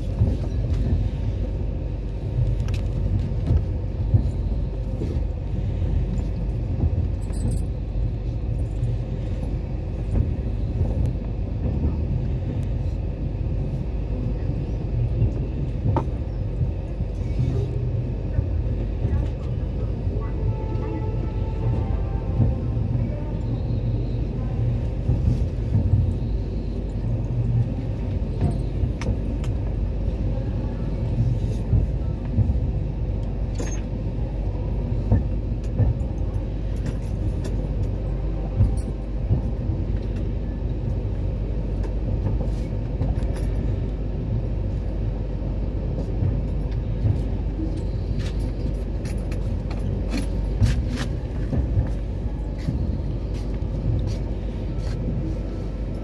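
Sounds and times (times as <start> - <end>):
low rumble: 0.0 - 56.0.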